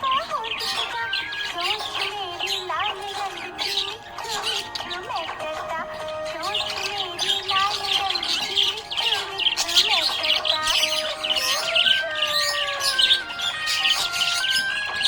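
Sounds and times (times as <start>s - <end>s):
background music: 0.0s - 15.0s
budgerigars chirping: 0.0s - 15.0s.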